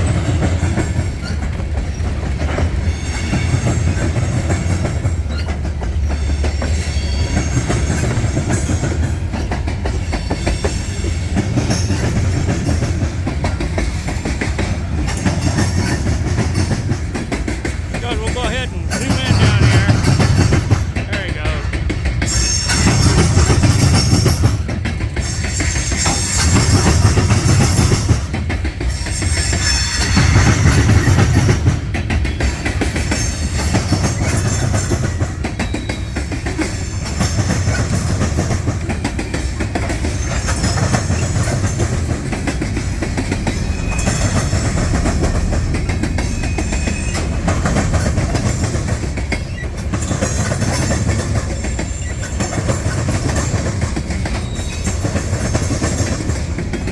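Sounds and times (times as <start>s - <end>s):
railcar wheels clickety-clack: 0.0s - 56.9s
train low rumble: 0.0s - 56.9s.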